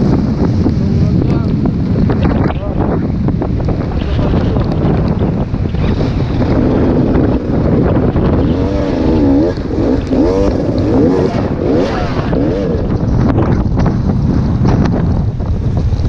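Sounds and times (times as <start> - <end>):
motorcycle engine revving: 0.0 - 16.0
wind buffeting microphone: 0.0 - 16.0.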